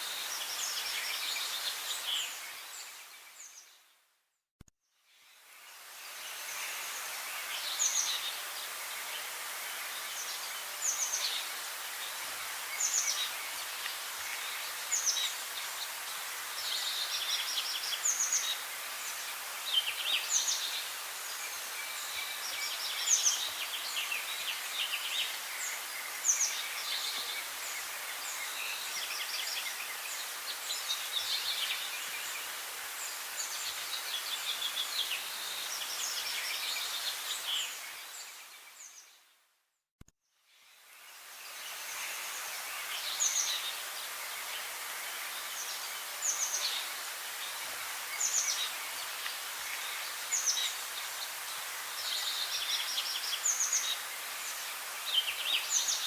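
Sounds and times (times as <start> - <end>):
background hiss: 0.0 - 4.1, 5.0 - 39.4, 40.5 - 56.0.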